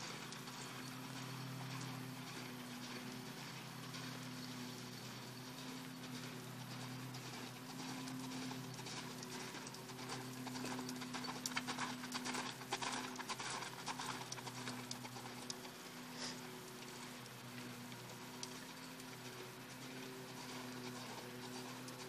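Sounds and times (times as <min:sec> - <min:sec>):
horse hoofbeats on sand: 0:00.0 - 0:22.0.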